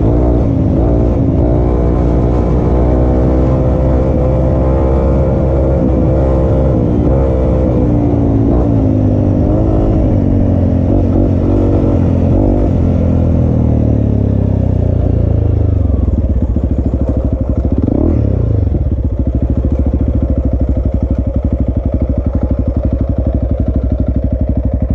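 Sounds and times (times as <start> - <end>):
motorcycle engine revving and idling: 0.0 - 24.9.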